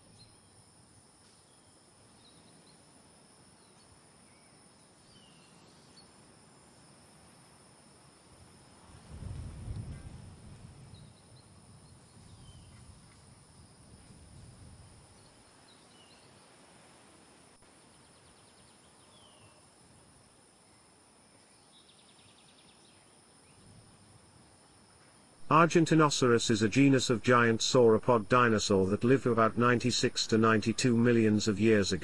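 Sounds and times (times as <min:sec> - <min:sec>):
insects and crickets: 0:00.0 - 0:32.0
rapid insect trill: 0:00.0 - 0:32.0.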